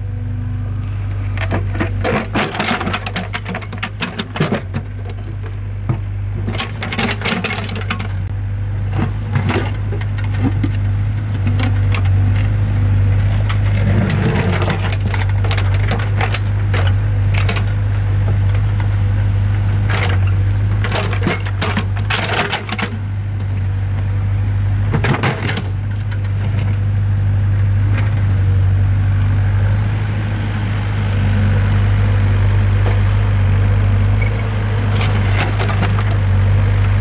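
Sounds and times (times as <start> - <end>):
excavator engine droning: 0.0 - 37.0.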